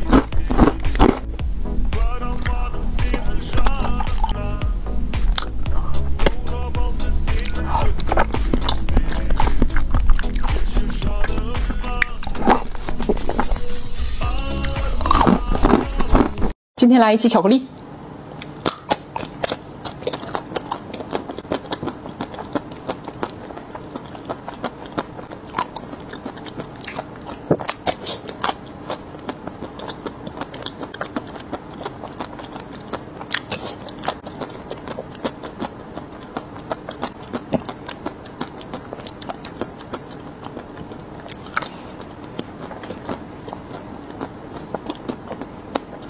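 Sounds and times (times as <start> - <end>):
wet chewing: 0.0 - 16.5, 18.2 - 46.0.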